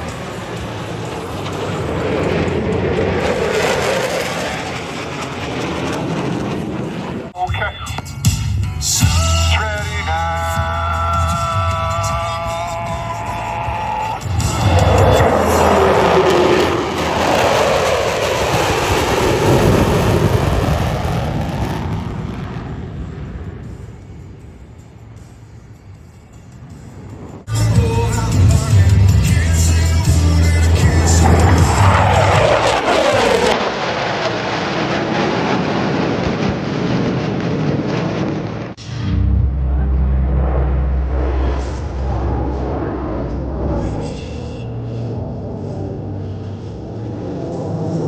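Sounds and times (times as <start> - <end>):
passing jet roar: 0.0 - 7.4, 9.5 - 24.5, 28.3 - 48.0.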